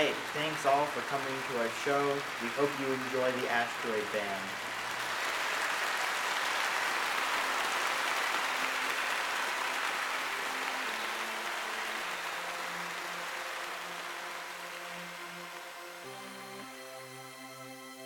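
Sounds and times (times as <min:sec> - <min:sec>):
audience applause: 0:00.0 - 0:16.7.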